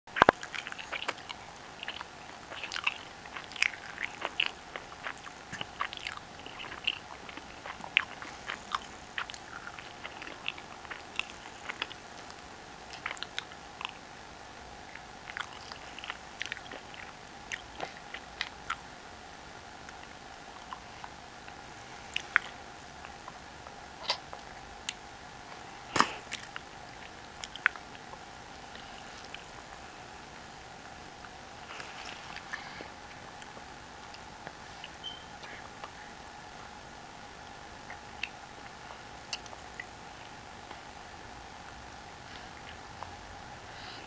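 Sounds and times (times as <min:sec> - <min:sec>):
child chewing corn: 0:00.1 - 0:44.0.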